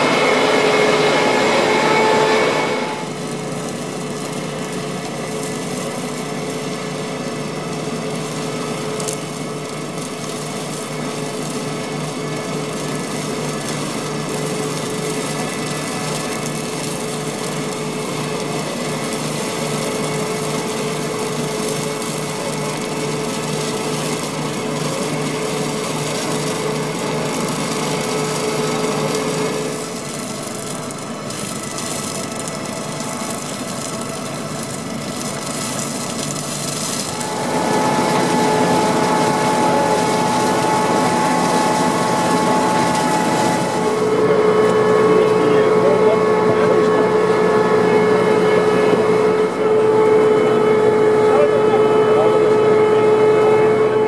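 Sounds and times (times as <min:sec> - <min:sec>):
harvester engine whine: 0:00.0 - 0:54.0.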